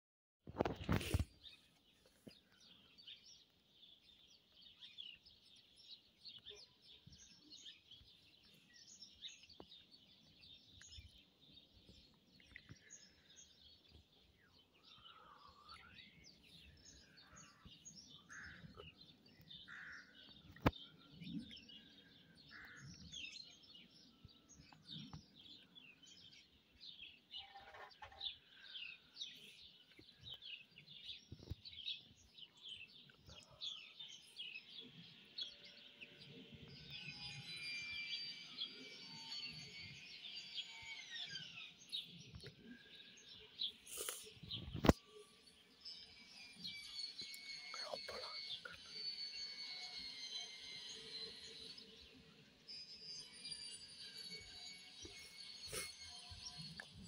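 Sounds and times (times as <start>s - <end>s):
small birds chirping: 0.5s - 57.0s.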